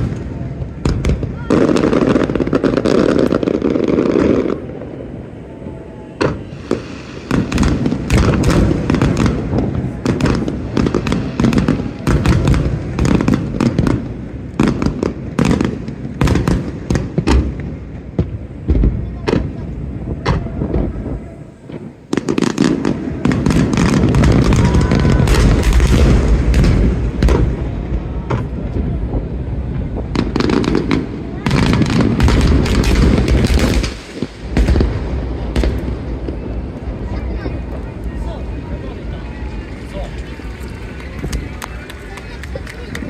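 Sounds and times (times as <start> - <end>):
firework shells booming: 0.0 - 5.4, 6.1 - 43.0
firework crackles: 0.0 - 43.0.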